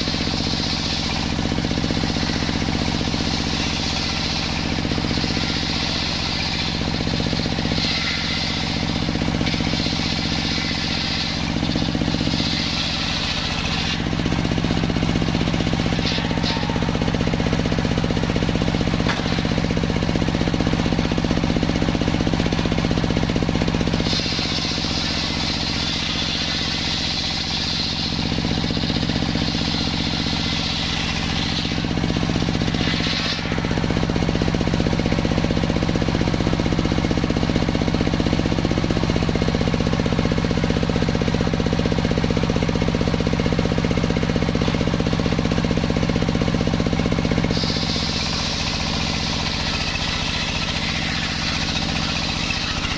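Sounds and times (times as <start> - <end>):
saw drive humming: 0.0 - 37.2, 40.6 - 52.9
high ringing saw whine: 0.0 - 37.4, 43.6 - 52.9
circular saw cutting log: 0.0 - 52.9.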